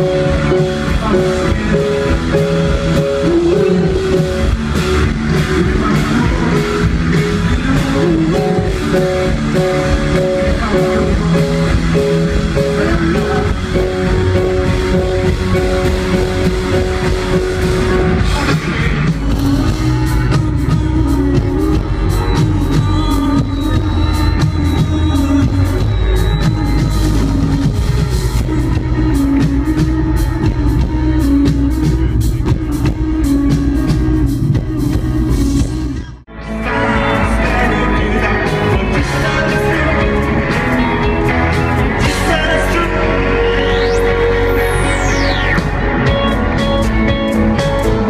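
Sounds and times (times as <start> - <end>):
drum beats and cymbal hits: 0.0 - 48.0
live rock band: 0.0 - 48.0.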